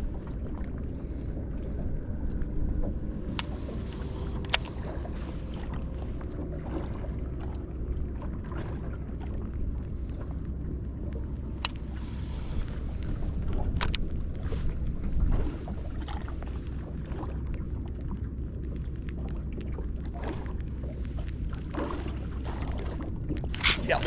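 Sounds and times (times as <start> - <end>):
low rumble of wind and water: 0.0 - 24.0.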